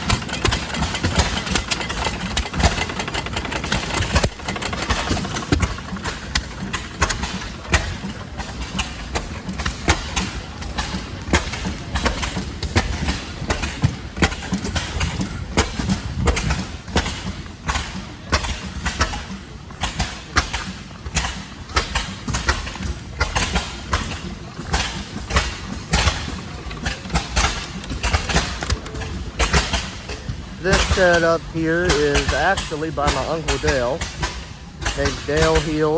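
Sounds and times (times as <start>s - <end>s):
stationary gas engines running: 0.0s - 35.9s.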